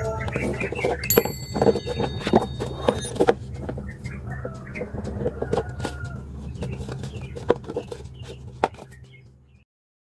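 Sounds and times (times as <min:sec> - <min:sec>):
bird calls: 0:00.0 - 0:09.6.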